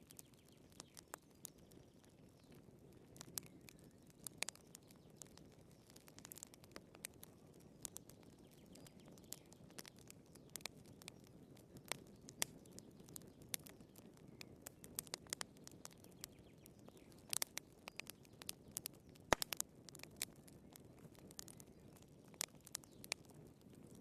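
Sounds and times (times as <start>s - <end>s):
firewood popping and snapping: 0.0s - 24.0s.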